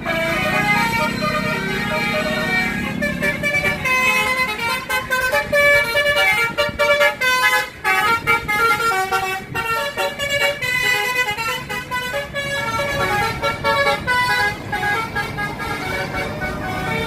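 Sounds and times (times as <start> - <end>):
musical air horn melody: 0.0 - 17.0.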